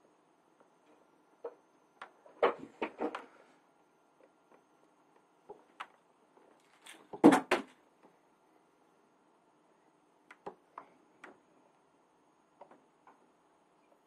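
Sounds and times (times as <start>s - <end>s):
faint steady background tone: 0.0s - 14.0s.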